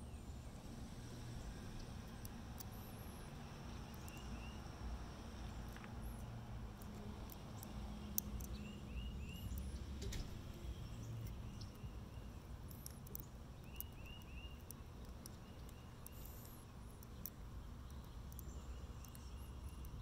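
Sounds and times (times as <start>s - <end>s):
birds chirping: 1.4s - 4.7s, 5.4s - 20.0s
spinner clicking: 1.7s - 4.6s, 5.4s - 20.0s.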